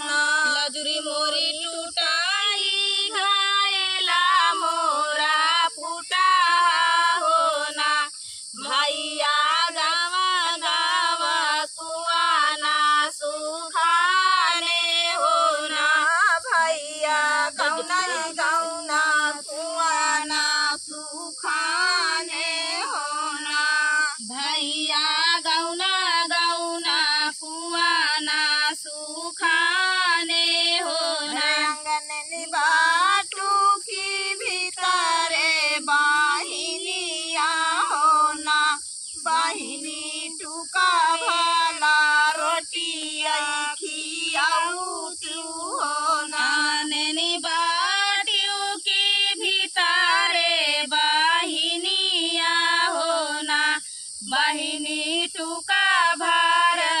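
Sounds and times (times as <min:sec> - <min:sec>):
woman singing folk song: 0:00.0 - 0:57.0.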